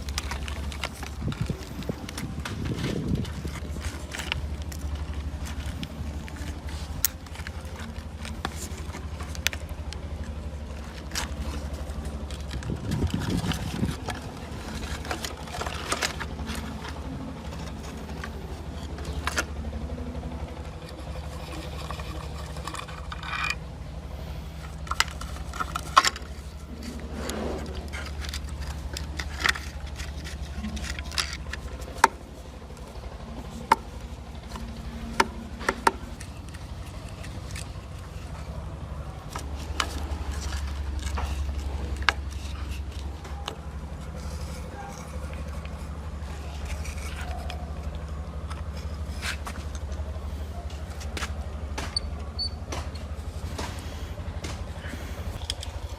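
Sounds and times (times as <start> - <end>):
low machine hum: 0.0 - 55.9
metal tools clinking and scraping: 0.0 - 55.9.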